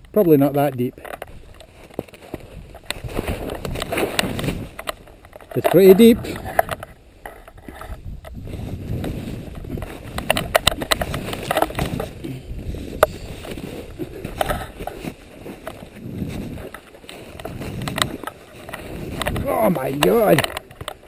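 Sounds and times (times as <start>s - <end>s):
jacket rustling: 0.3s - 21.0s
crunching snow and breaking ice: 0.5s - 21.0s.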